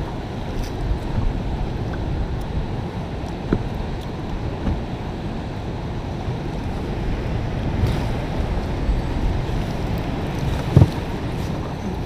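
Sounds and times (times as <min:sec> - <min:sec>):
river water flowing: 0:00.0 - 0:12.0
wind buffeting microphone: 0:00.0 - 0:12.0.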